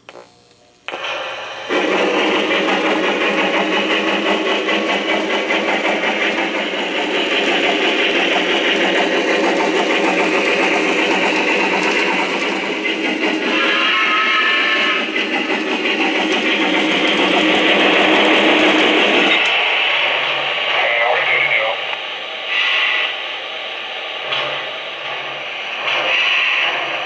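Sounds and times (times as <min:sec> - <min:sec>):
model train running: 0:00.0 - 0:27.0.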